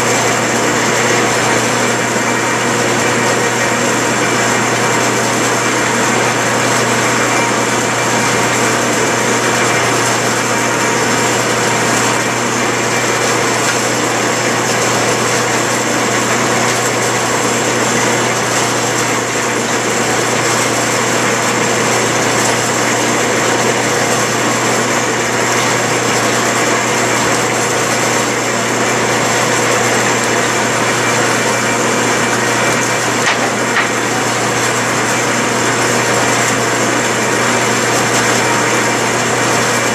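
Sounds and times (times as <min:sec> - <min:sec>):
metal lathe whirring: 0:00.0 - 0:39.9.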